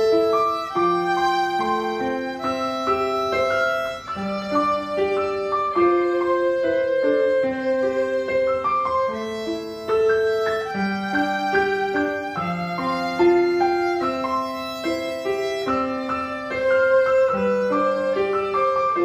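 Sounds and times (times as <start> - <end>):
keyboard accompaniment: 0.0 - 19.0
violin melody: 0.0 - 19.0.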